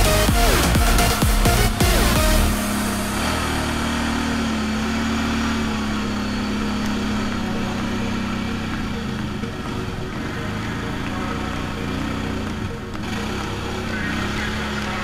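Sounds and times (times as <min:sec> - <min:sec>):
quad bike engine droning: 0:00.0 - 0:15.0.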